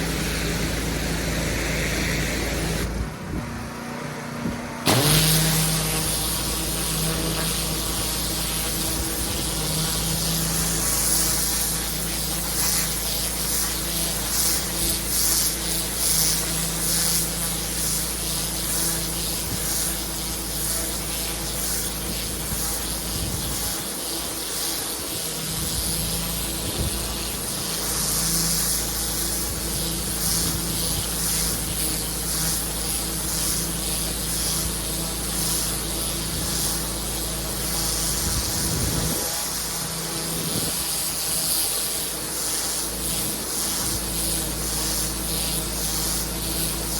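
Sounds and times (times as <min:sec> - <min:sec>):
water jet hissing on paving: 0:00.0 - 0:03.0, 0:04.9 - 0:46.9
pressure washer engine humming: 0:00.0 - 0:46.9.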